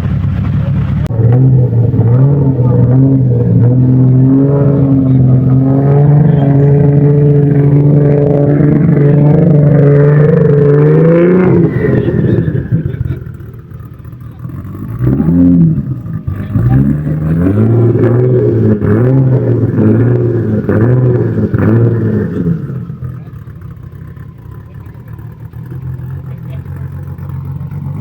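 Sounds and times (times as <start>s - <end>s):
car revving in throttle blips: 0.0s - 28.0s
sports car engine: 0.0s - 28.0s.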